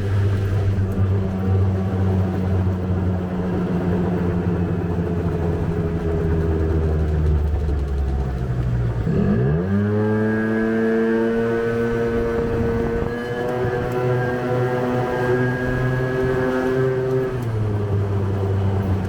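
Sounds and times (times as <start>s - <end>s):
small engine idling and revving: 0.0s - 19.0s.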